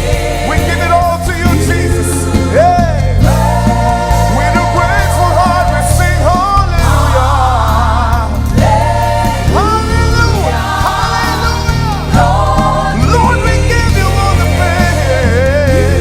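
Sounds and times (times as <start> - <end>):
band with steady bass: 0.0 - 16.0
choir singing: 0.0 - 16.0.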